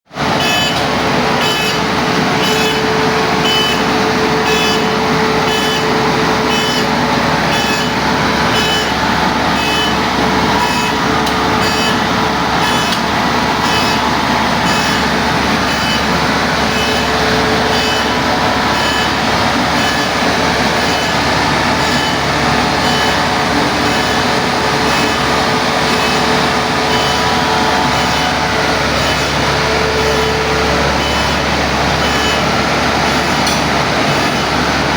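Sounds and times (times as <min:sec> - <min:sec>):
diesel engine running: 0:00.0 - 0:34.9
reversing alarm beeping: 0:00.2 - 0:34.9.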